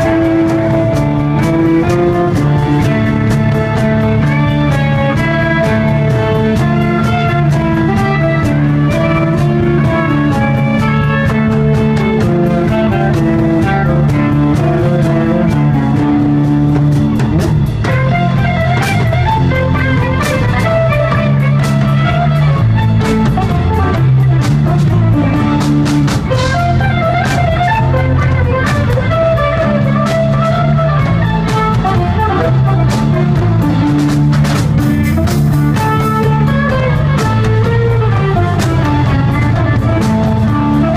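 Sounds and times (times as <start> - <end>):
lead guitar melody: 0.0 - 40.9
live rock band: 0.0 - 40.9.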